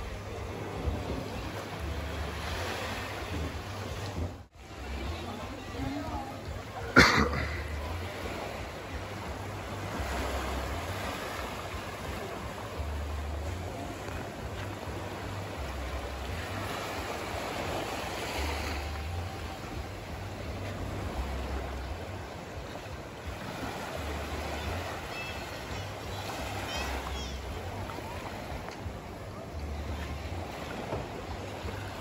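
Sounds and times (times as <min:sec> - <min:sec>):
small waves lapping on sand: 0:00.0 - 0:32.0.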